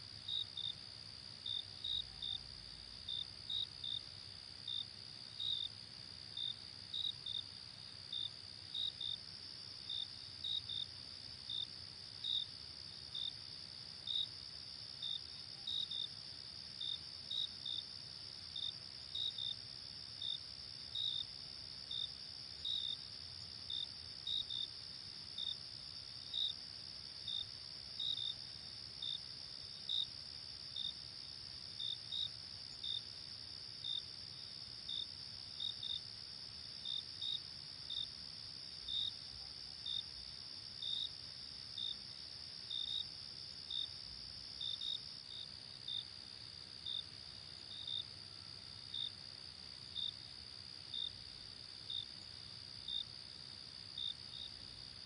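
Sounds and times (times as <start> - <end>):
insect chirps: 0.0 - 55.0.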